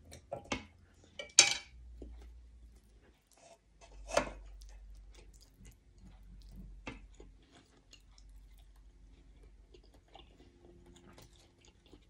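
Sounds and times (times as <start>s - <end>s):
faint chewing and mouth sounds: 0.0s - 12.0s
low steady hum: 0.0s - 12.0s.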